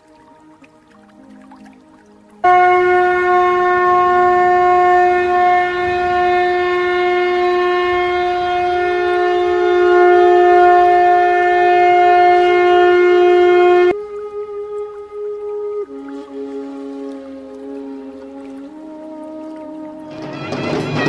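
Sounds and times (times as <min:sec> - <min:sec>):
conch shell blown: 0:00.0 - 0:21.0.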